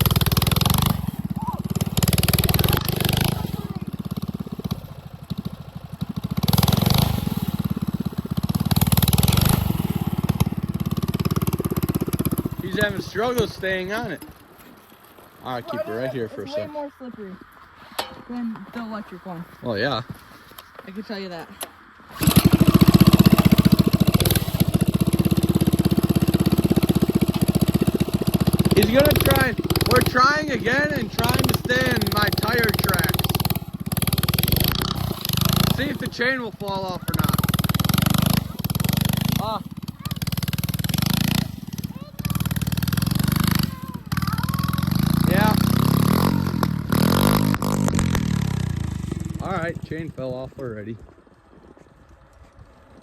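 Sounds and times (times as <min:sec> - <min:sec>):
small engine revving: 0:00.0 - 0:14.4, 0:22.0 - 0:50.4.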